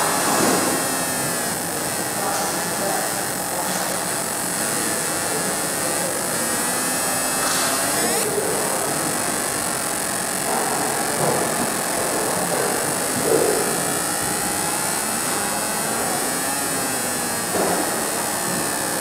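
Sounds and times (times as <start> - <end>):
laser engraving hiss: 0.0 - 19.0.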